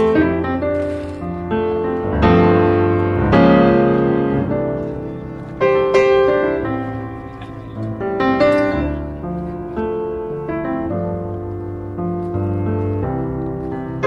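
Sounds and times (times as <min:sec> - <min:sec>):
piano chords ringing: 0:00.0 - 0:14.0.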